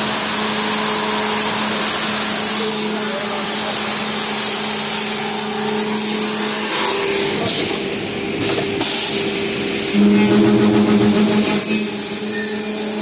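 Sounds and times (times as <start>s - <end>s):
machine whine: 0.0s - 8.1s, 9.8s - 13.0s.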